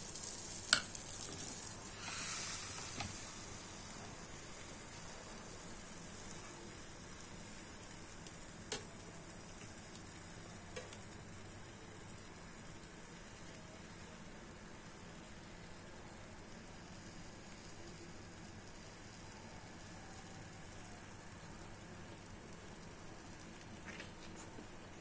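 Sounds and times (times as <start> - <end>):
faint sizzling in a wok: 0.0 - 25.0.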